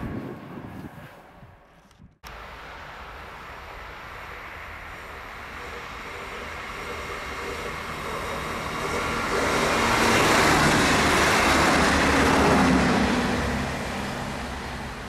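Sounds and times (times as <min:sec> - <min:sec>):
train passing: 0:02.3 - 0:15.0.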